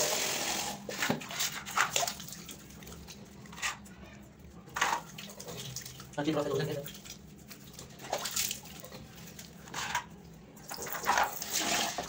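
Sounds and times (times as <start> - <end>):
water splashing on tiled floor: 0.0 - 3.9, 4.6 - 12.0.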